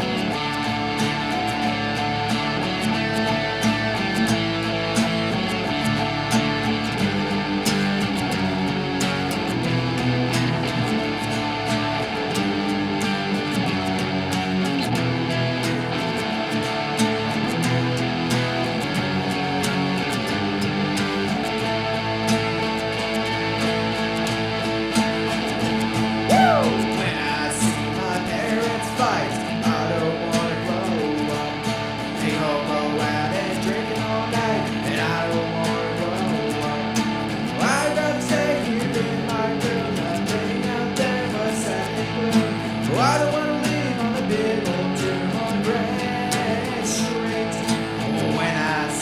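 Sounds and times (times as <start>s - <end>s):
rock music with strummed guitars: 0.0s - 49.0s
sliding guitar notes: 0.0s - 49.0s.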